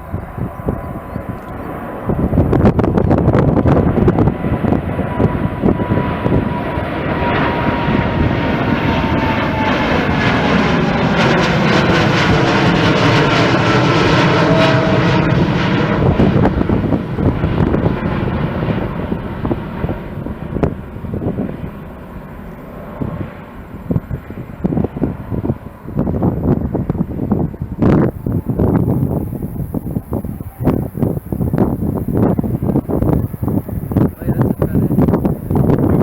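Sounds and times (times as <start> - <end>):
jet airliner passing: 0.0 - 36.0.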